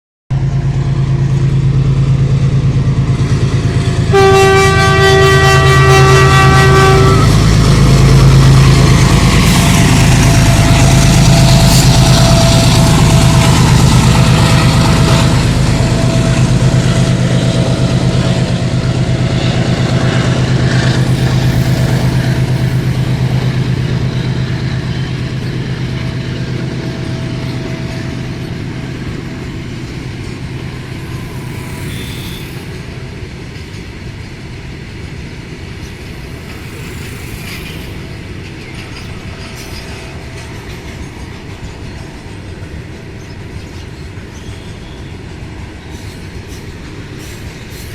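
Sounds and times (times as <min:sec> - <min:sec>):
locomotive engine humming: 0:00.4 - 0:47.9.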